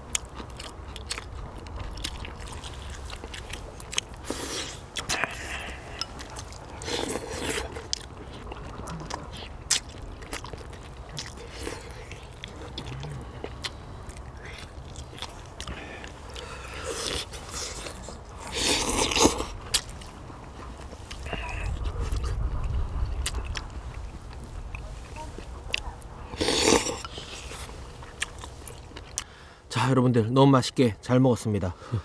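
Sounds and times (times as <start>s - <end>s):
people chewing and biting: 0.0s - 29.5s.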